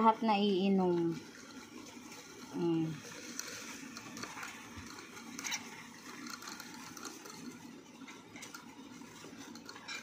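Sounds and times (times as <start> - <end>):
hamsters licking metal tube: 1.4 - 10.0.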